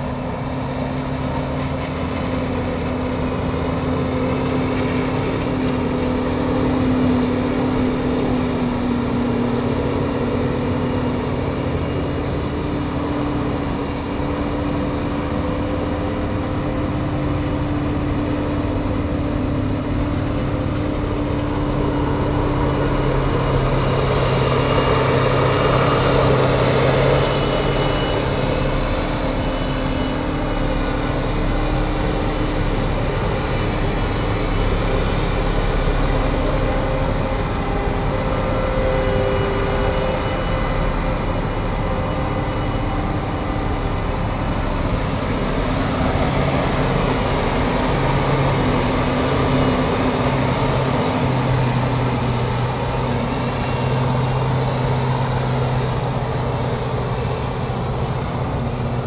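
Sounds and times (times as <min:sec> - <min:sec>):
forage harvester running: 0:00.0 - 0:59.0
rushing hiss: 0:00.0 - 0:59.0
tractor engine: 0:00.0 - 0:59.0.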